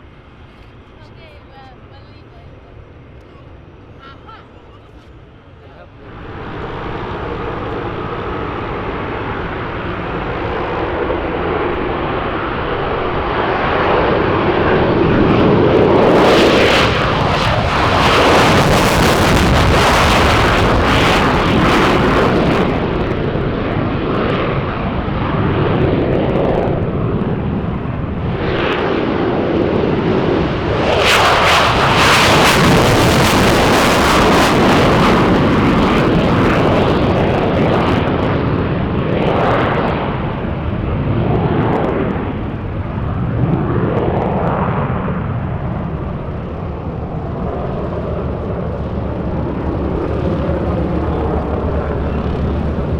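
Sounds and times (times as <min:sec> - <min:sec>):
jet engine roar: 0:00.0 - 0:52.9.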